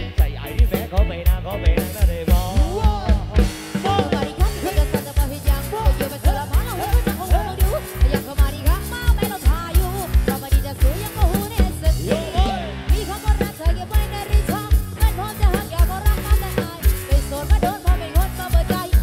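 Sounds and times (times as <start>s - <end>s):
woman singing: 0.0s - 19.0s.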